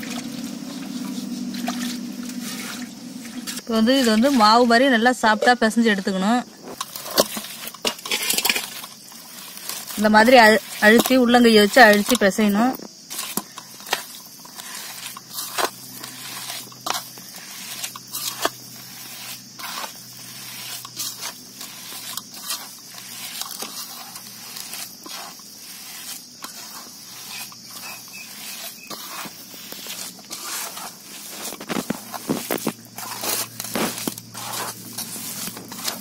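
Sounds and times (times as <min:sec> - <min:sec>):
hand kneading curd on metal plate: 0:00.0 - 0:36.0.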